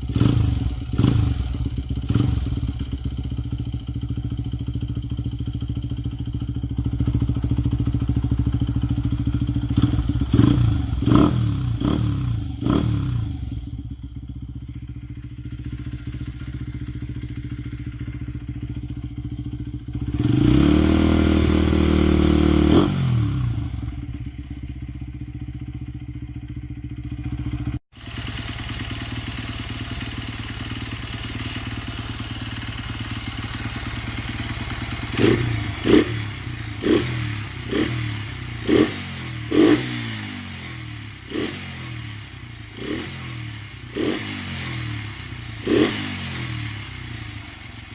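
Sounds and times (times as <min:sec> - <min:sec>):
scooter engine idling and revving: 0:00.0 - 0:47.9.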